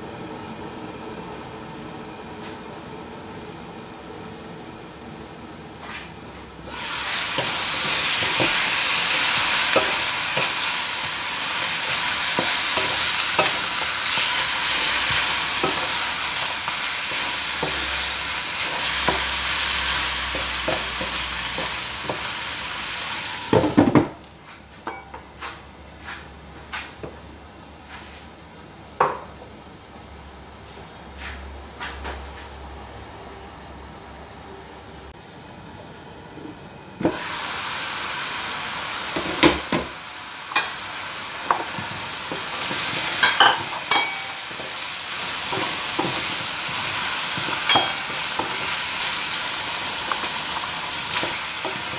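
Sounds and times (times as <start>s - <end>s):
chicken sizzling in wok: 6.2s - 31.7s, 35.3s - 51.9s.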